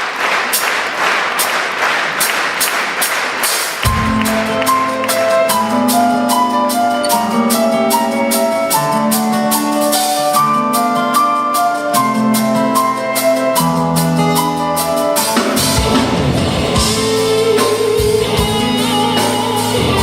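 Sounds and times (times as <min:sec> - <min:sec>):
drums steady beat: 0:00.0 - 0:20.0
live band playing: 0:00.0 - 0:20.0
keyboard melody: 0:03.8 - 0:20.0.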